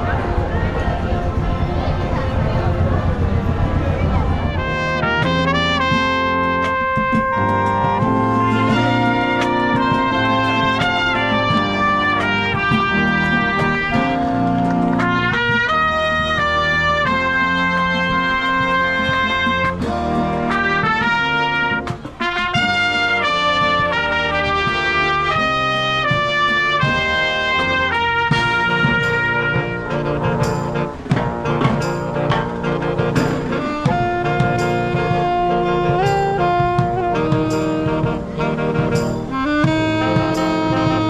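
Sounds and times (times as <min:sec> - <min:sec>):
marching band playing: 0:00.0 - 0:41.0
steady drum beat: 0:00.0 - 0:41.0
trumpet melody: 0:00.0 - 0:41.0.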